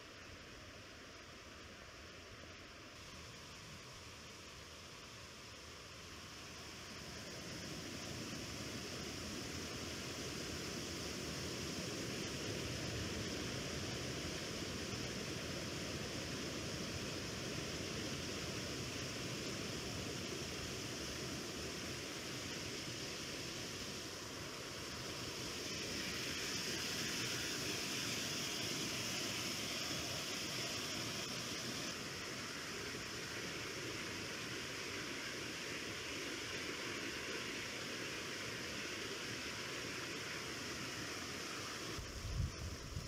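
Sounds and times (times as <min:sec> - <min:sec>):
river rushing over rapids: 0:06.7 - 0:42.0.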